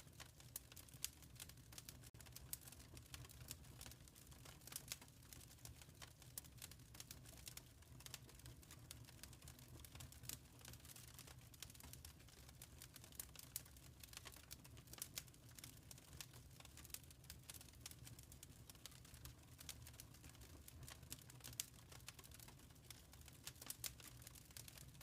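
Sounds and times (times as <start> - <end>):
fire crackling faintly: 0.0 - 25.0.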